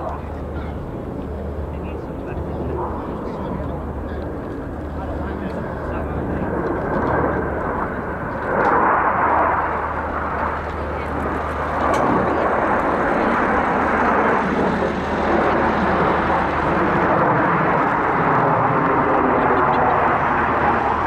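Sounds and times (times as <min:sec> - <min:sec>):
jet roar with deep rumble: 0:00.0 - 0:21.0.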